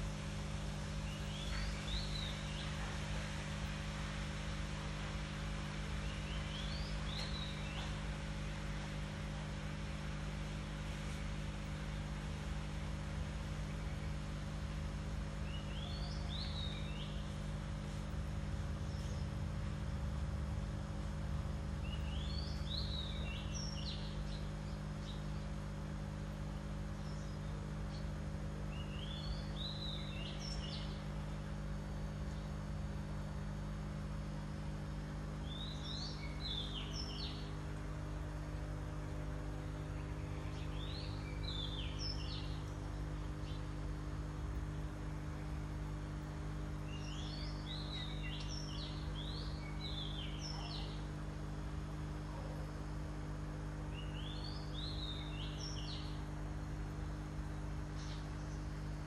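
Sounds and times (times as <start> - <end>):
low electric hum: 0.0 - 59.0.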